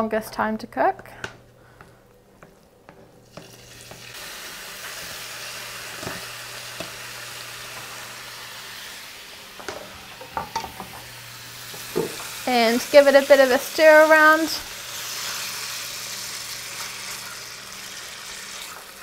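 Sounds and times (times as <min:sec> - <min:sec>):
chicken sizzling in a pan: 0:03.2 - 0:19.0.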